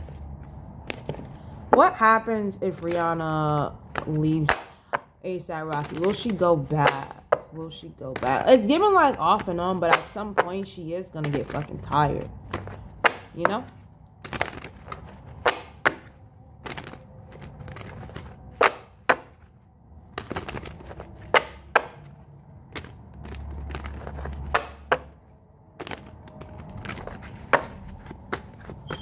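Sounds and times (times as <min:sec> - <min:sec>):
cards being shuffled: 0:00.0 - 0:01.8, 0:02.7 - 0:05.0, 0:05.6 - 0:29.0.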